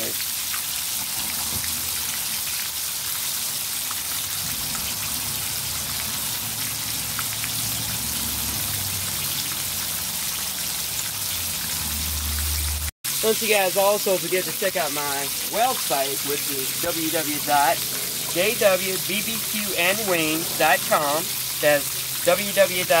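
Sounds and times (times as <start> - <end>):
oil sizzling and popping: 0.0 - 23.0.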